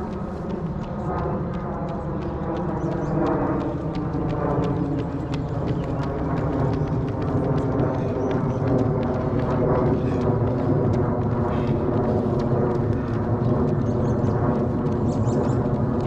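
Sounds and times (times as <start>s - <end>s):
low hum: 0.0s - 16.0s
runners' footfalls: 0.0s - 16.0s.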